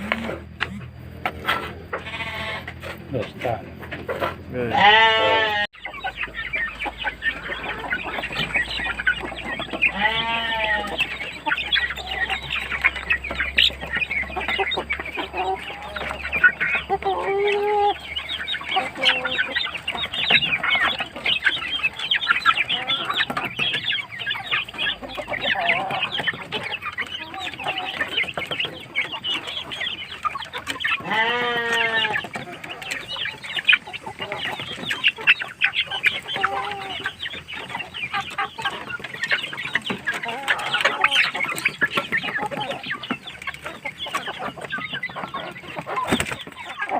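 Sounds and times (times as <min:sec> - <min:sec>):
chickens clucking: 0:00.0 - 0:46.9
drawn-out chicken call: 0:00.0 - 0:46.9.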